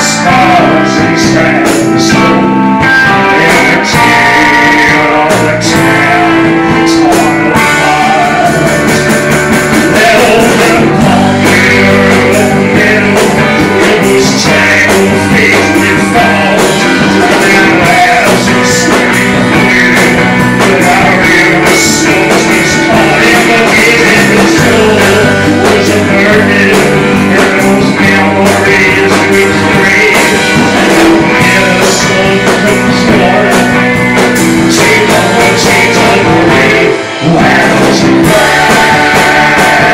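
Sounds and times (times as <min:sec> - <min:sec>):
drum kit: 0:00.0 - 0:39.9
electric guitar: 0:00.0 - 0:39.9
man singing into a microphone: 0:00.0 - 0:39.9.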